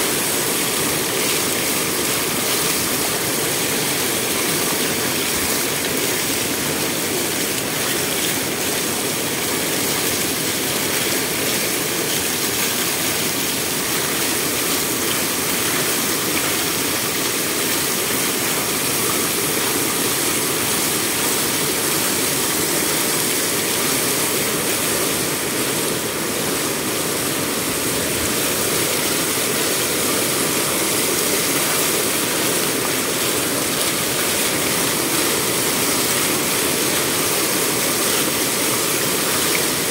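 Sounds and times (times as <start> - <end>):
water rushing over stone: 0.0 - 39.9.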